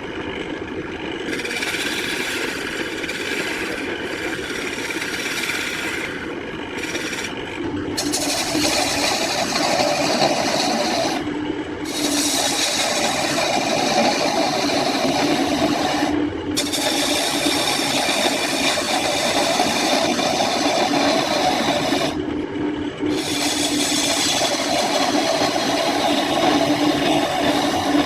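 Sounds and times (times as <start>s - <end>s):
power tool abrading wood: 1.2s - 22.2s, 23.1s - 28.0s.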